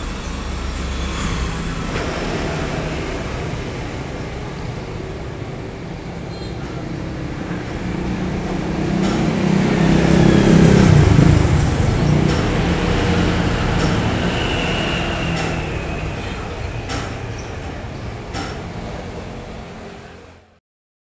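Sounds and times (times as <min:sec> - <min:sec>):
motor vehicle engine running: 0:00.0 - 0:19.5.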